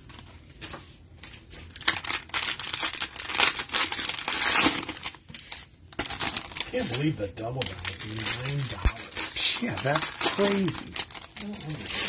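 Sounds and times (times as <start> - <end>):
cellophane crinkling and tearing: 0.0 - 12.0.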